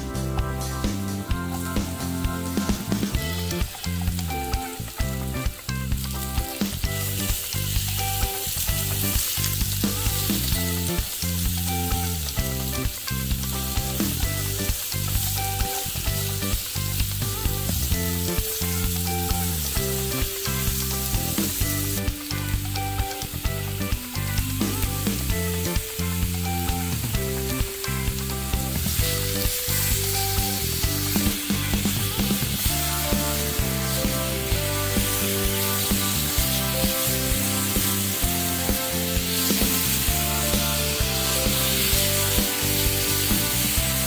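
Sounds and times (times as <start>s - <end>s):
background music with beat: 0.0s - 44.0s
fruit sizzling in butter: 1.3s - 44.0s.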